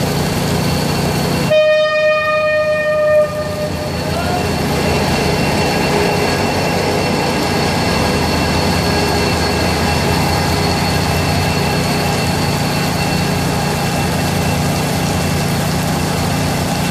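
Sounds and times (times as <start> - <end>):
diesel locomotive idling: 0.0 - 16.9.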